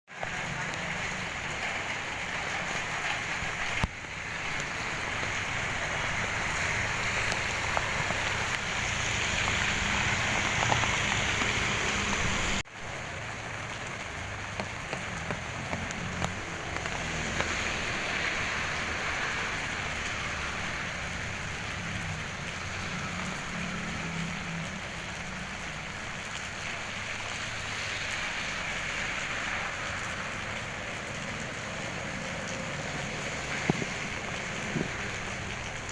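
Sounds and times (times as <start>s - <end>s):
rain falling: 0.1s - 35.9s.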